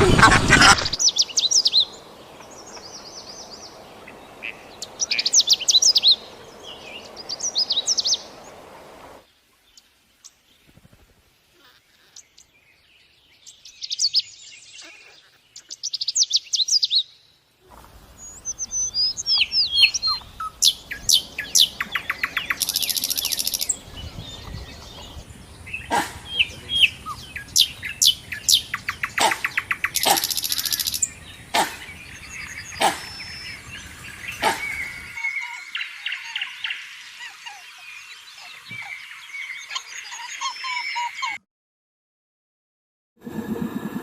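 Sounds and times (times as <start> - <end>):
birds chirping and trilling: 0.0 - 41.4.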